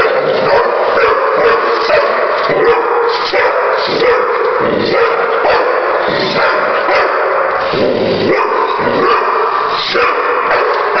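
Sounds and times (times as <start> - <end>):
dog barking and yipping: 0.0 - 11.0.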